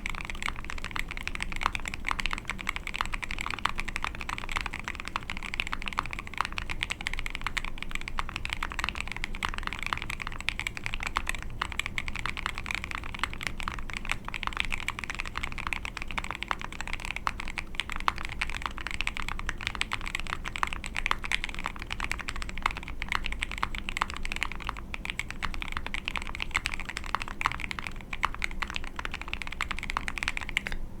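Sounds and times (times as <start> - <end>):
mechanical keyboard typing: 0.0 - 30.8.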